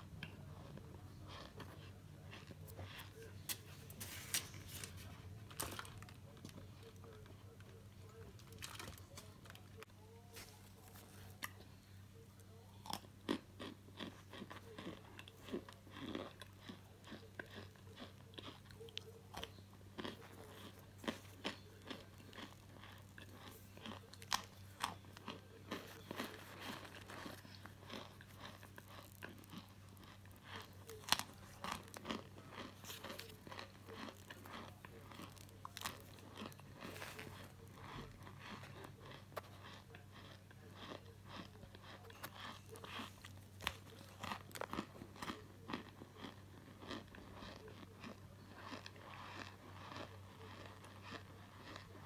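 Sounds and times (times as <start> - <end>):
faint low hum: 0.0 - 52.0
starch chunks crunching: 0.2 - 11.8, 12.5 - 52.0.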